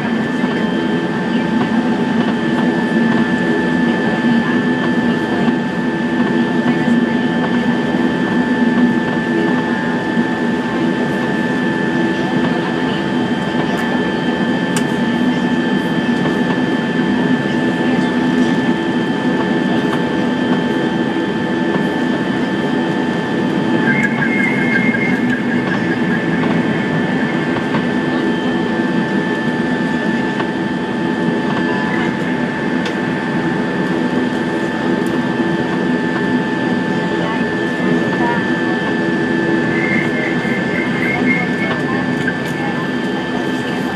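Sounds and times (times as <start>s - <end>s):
aircraft engines droning: 0.0s - 43.9s
high steady engine whine: 0.0s - 43.9s.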